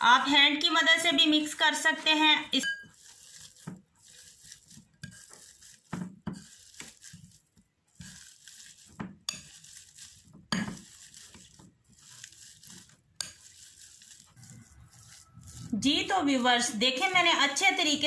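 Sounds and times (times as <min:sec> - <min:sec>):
masher scraping through food: 0:02.8 - 0:18.0.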